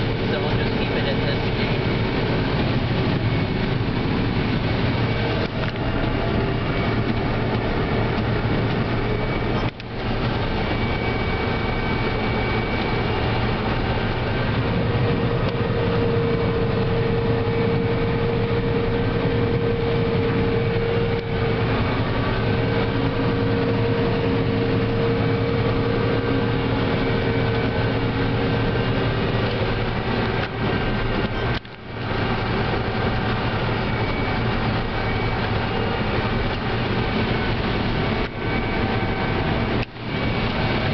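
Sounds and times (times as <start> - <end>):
combine harvester drone: 0.0 - 40.9
machinery whine: 0.0 - 40.9.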